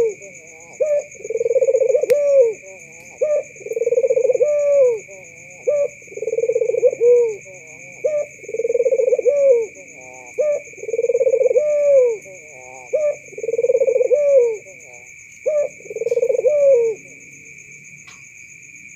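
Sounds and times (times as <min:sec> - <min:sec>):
dove cooing: 0:00.0 - 0:17.2
high insect trill: 0:00.0 - 0:18.9.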